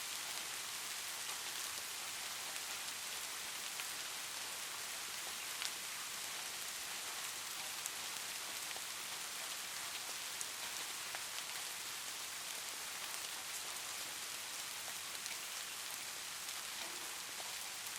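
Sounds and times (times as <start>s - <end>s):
steady rain: 0.0s - 17.9s.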